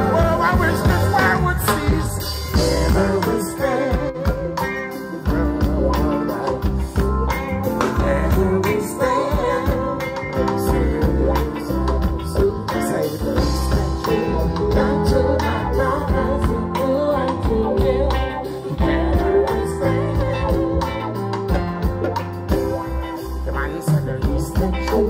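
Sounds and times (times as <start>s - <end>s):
man singing: 0.0s - 21.7s, 23.2s - 25.0s
live reggae music: 0.0s - 25.0s.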